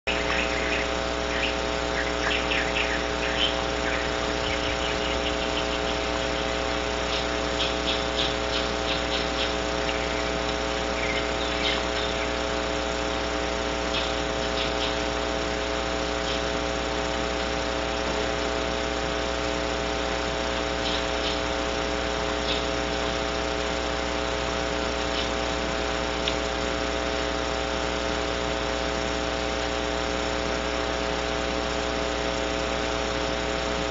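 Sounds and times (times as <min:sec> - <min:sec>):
electrical hum and hiss: 0:00.0 - 0:33.9.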